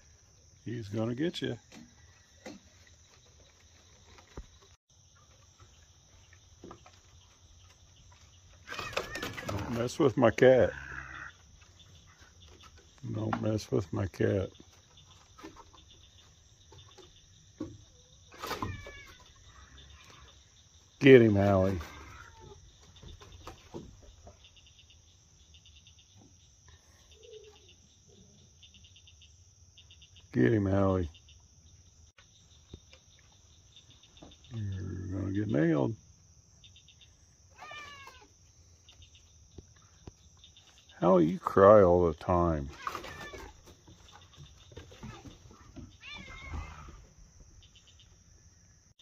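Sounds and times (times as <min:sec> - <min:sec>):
night insects chirping: 0:00.0 - 0:49.0.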